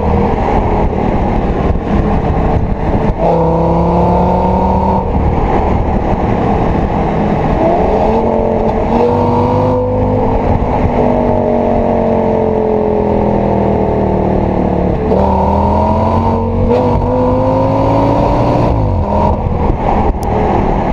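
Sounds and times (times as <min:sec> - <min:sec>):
car exhaust engine note: 0:00.0 - 0:20.9.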